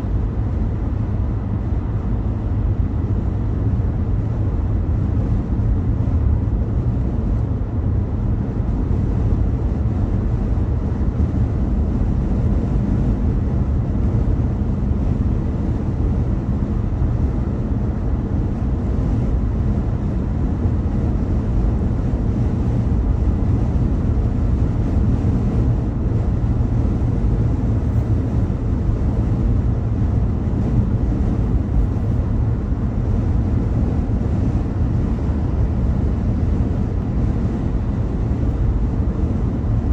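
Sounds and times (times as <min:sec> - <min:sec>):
car road and engine rumble: 0:00.0 - 0:39.9
faint steady hum: 0:00.0 - 0:39.9.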